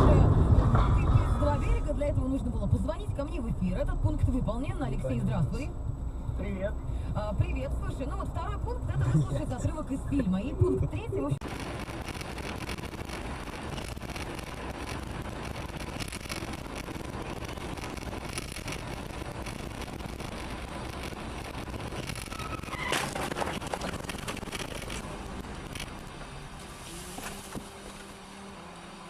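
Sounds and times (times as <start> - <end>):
car road and engine noise: 0.0 - 29.0.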